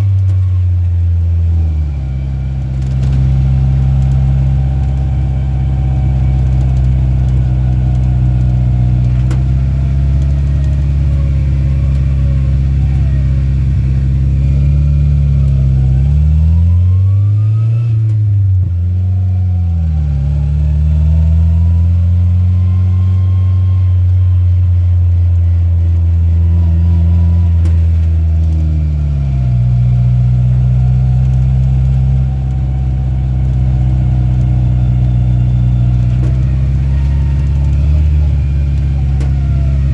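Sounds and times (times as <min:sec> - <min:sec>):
truck engine revving and shifting: 0:00.0 - 0:39.9.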